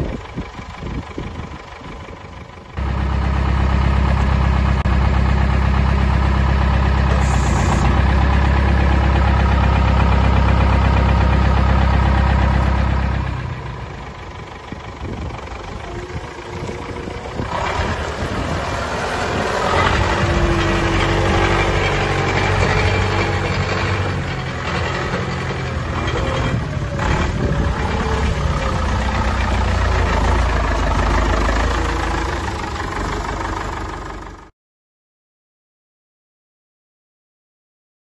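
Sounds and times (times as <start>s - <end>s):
tractor diesel engine running: 0.0s - 34.5s.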